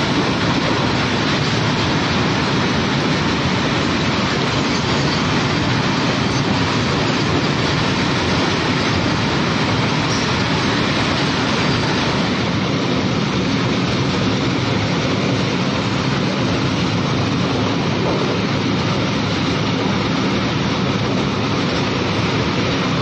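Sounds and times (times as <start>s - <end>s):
freight train wheels rumbling on rails: 0.0s - 23.0s
locomotive passing: 0.0s - 23.0s.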